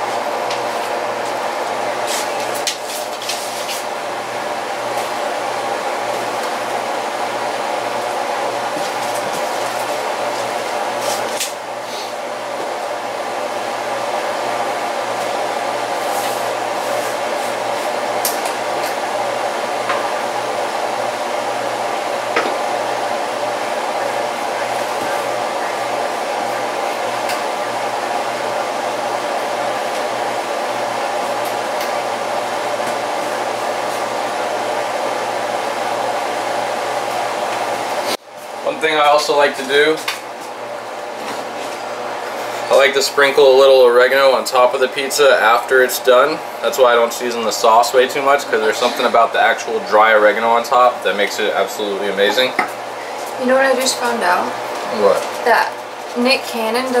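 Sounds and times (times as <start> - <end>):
fan whirring: 0.0 - 57.0.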